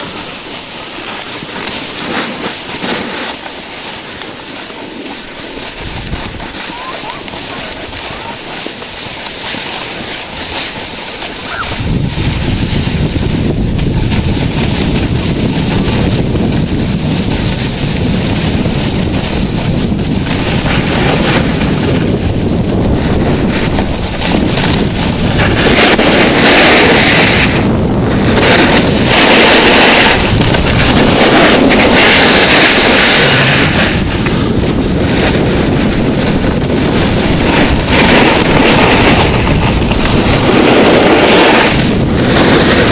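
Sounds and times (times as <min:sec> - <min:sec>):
skis hissing on snow: 0:00.0 - 0:42.9
wind buffeting microphone: 0:00.0 - 0:42.9.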